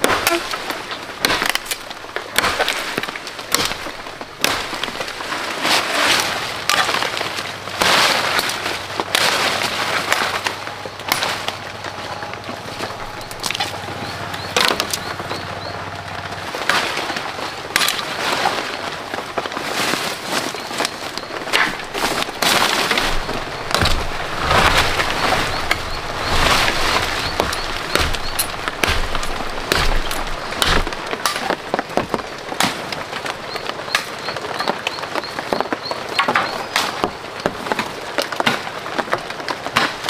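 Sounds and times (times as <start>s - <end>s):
machete chopping branches: 0.0s - 11.6s, 14.6s - 15.2s, 16.6s - 18.7s, 19.4s - 33.3s, 36.2s - 40.0s
twigs and leaves rustling: 0.0s - 40.0s.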